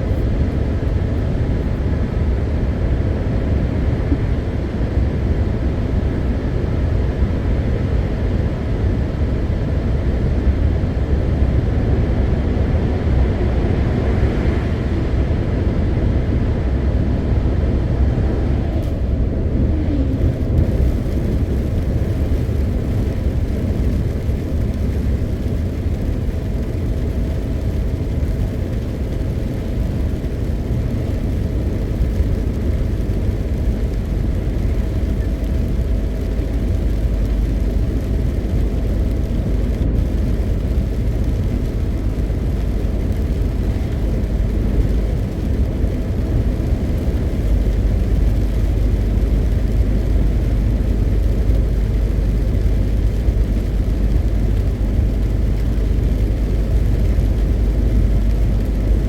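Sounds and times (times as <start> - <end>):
truck diesel engine drone: 10.8 - 59.0
tyre and road noise: 11.2 - 59.0.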